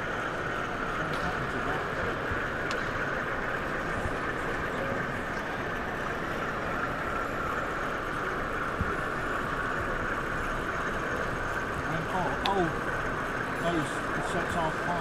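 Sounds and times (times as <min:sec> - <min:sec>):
busy exhibition hall background noise: 0:00.0 - 0:15.0.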